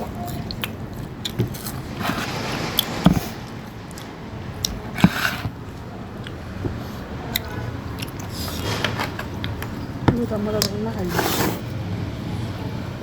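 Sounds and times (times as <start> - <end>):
people chewing: 0.0 - 12.8.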